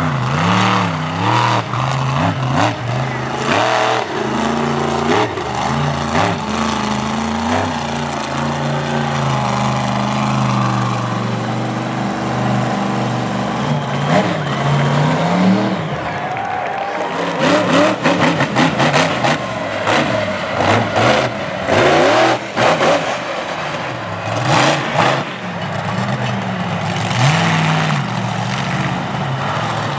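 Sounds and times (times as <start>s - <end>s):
truck engine revving hard: 0.0s - 29.9s.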